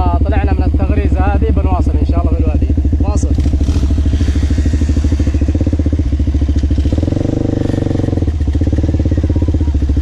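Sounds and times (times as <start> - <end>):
off-road bike engine revving: 0.0 - 10.0.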